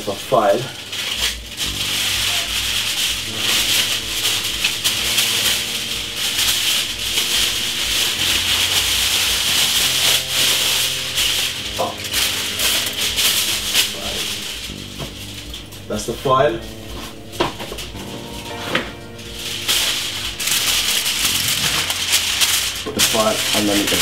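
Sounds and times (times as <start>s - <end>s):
kitchen foil crinkling: 0.0s - 24.0s.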